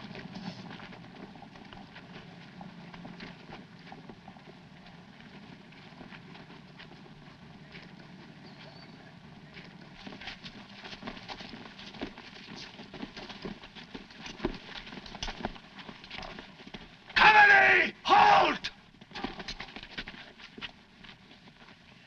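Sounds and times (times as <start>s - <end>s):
marching footsteps on dirt: 0.0s - 22.0s.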